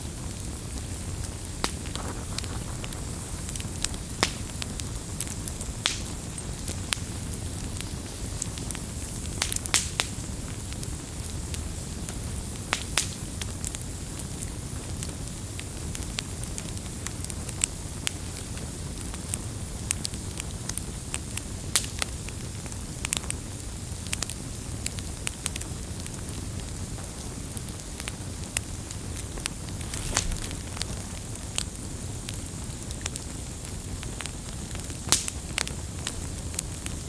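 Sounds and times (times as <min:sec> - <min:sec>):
firewood crackling and popping: 0:00.0 - 0:37.0
low rumble of flames: 0:00.0 - 0:37.0.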